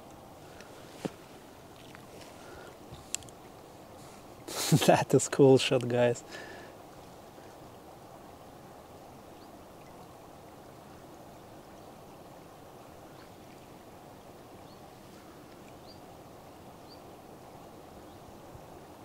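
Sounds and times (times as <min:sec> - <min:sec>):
rush of fast river water: 0:00.0 - 0:19.0.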